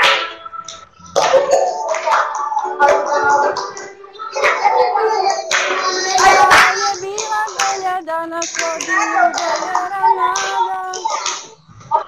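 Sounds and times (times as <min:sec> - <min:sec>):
hand claps: 0:00.0 - 0:04.6, 0:05.3 - 0:11.6
children singing together: 0:00.0 - 0:12.0.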